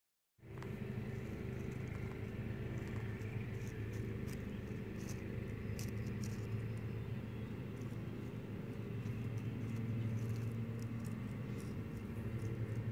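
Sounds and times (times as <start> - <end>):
low mechanical hum: 0.4 - 12.9.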